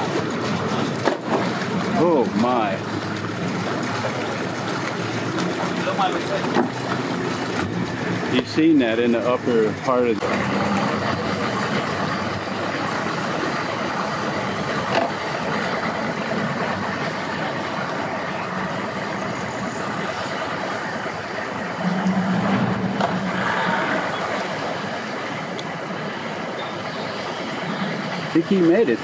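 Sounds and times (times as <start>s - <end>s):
outboard motor idling: 0.0s - 29.0s.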